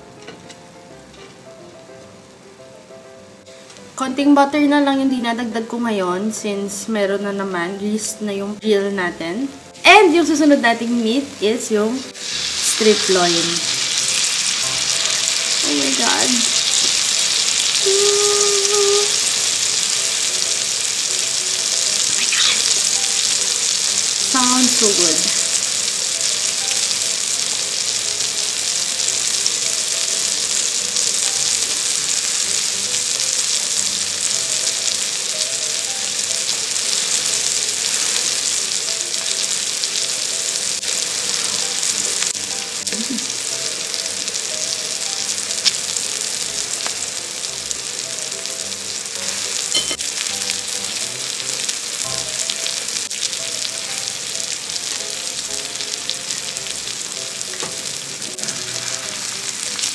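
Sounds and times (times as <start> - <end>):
steak sizzling on griddle: 9.6 - 59.9.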